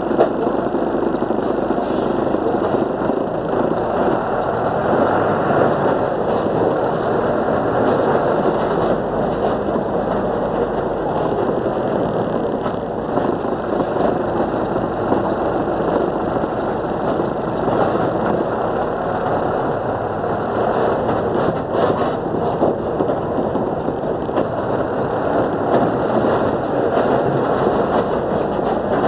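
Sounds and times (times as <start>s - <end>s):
bus engine running: 0.0s - 29.0s
tyres rolling on asphalt: 0.0s - 29.0s.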